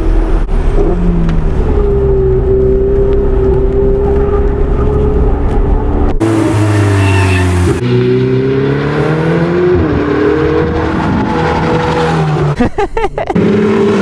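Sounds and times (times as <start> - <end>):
car engine revving: 0.0 - 12.6, 13.3 - 14.0.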